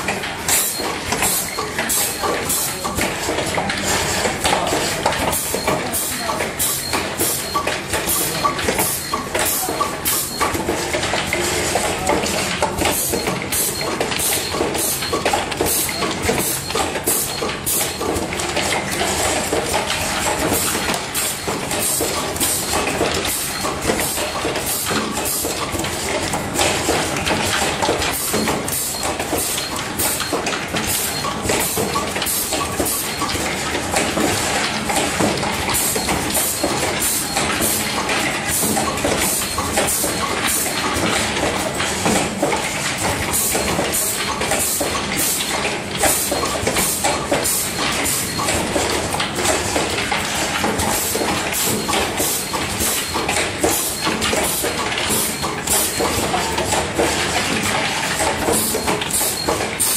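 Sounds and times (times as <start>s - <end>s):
machine clatter with sharp clicks: 0.0s - 59.9s.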